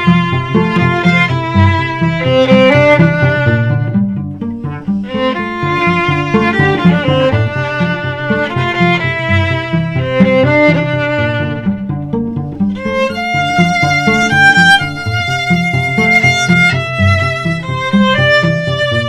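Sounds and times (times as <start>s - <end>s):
cello low notes: 0.0s - 19.0s
violin melody: 0.0s - 19.0s.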